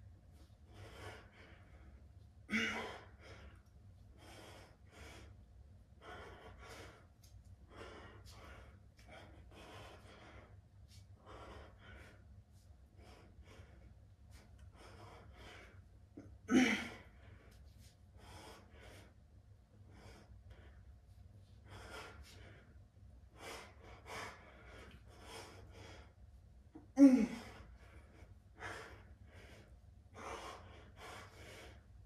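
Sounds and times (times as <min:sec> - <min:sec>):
man breathing hard: 0:00.4 - 0:32.0.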